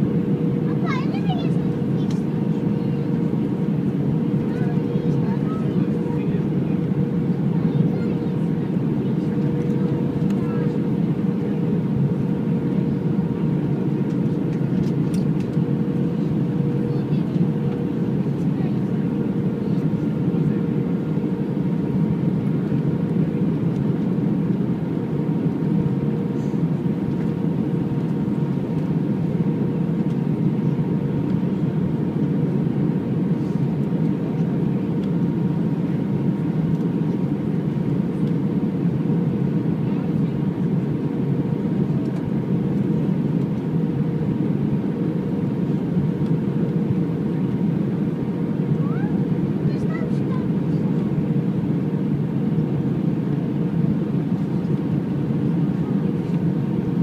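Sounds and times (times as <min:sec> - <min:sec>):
airliner cabin engine rush: 0:00.0 - 0:57.0.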